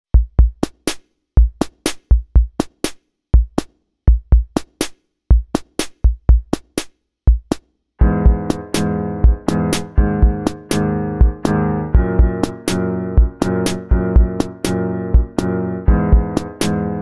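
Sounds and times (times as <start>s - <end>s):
deep kick drums: 0.1s - 0.7s, 1.4s - 2.6s, 3.4s - 4.6s, 5.3s - 6.6s, 7.3s - 17.0s.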